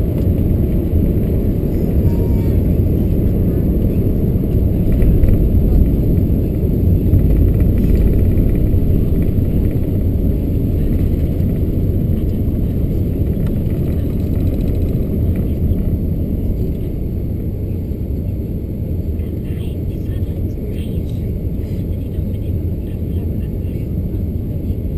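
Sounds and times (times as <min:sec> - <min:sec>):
jet engines low rumble in cabin: 0:00.0 - 0:24.9.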